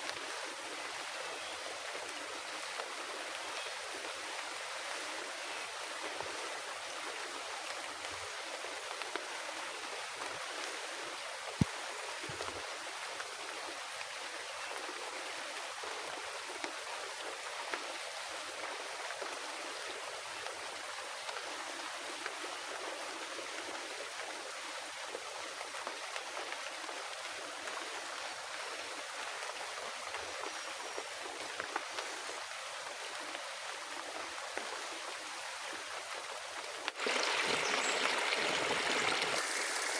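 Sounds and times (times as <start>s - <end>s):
heavy rain in a forest: 0.0s - 39.9s.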